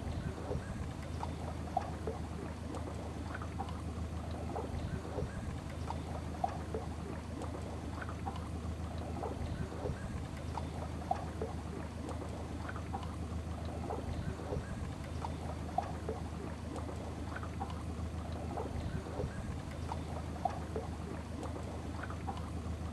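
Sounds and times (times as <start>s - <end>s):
boat motor droning: 0.0s - 22.9s
water splashing on hull: 0.0s - 22.9s.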